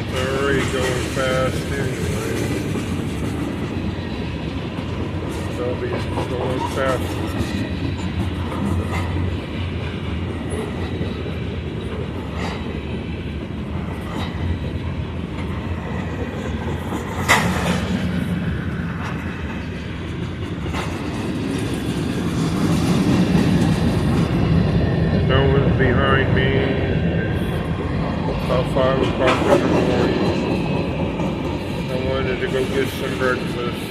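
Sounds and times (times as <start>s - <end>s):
freight train wheels clattering: 0.0s - 33.9s
railcar clanks: 0.0s - 33.9s.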